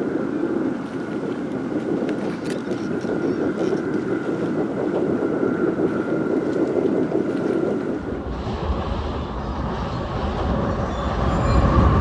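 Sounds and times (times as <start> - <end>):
train wheels rumbling on rail: 1.5 - 12.0.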